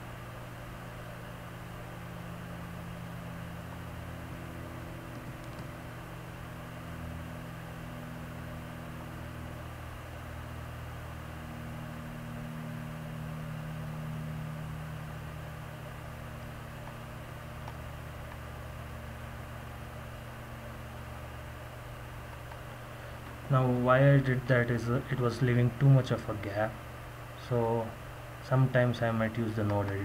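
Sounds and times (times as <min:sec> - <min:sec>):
low hum with fixed tones: 0:00.0 - 0:30.0.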